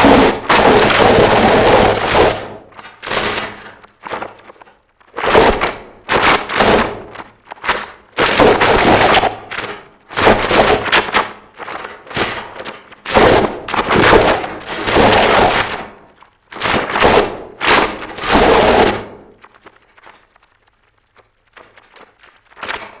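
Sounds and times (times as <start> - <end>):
harsh distorted noise blasts: 0.0 - 20.8.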